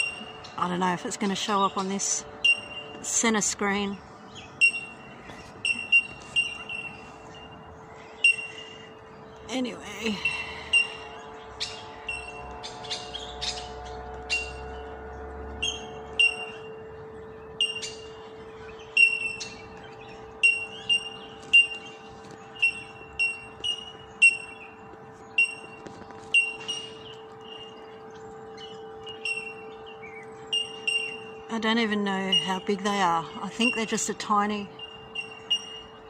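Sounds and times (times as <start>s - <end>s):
birds calling bell-like tinks: 0.0s - 36.0s
faint steady hum: 0.0s - 36.0s.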